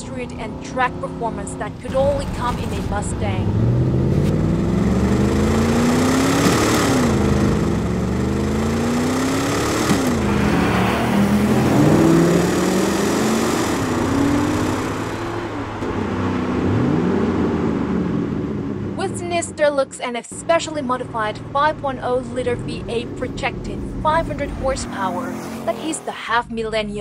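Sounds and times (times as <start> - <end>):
car engine accelerating and revving: 0.0 - 19.5, 20.7 - 26.3.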